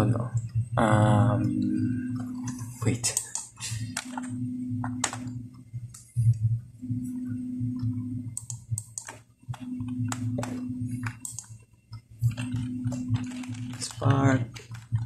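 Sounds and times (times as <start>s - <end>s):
computer keyboard typing: 1.4s - 6.4s, 7.7s - 15.0s.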